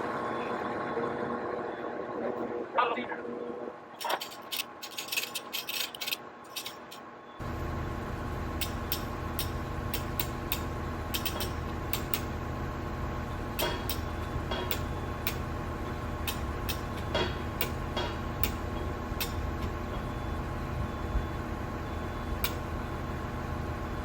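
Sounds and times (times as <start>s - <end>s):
loader engine humming: 3.6s - 24.0s.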